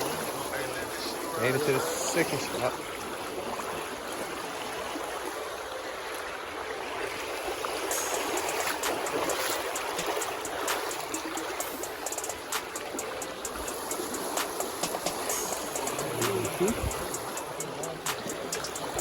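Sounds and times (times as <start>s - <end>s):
creek water over rocks: 0.0s - 19.0s.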